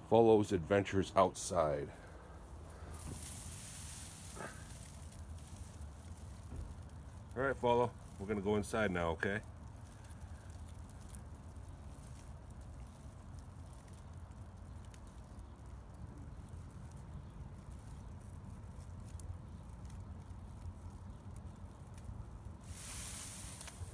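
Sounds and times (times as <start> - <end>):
low steady rumble: 0.0 - 23.9
tall grass rustling: 1.4 - 23.9.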